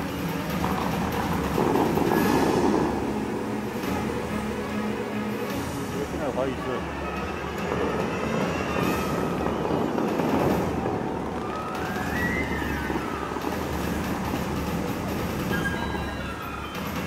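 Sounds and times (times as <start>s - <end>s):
faint music: 0.0s - 17.0s
fountain water rushing: 0.0s - 17.0s.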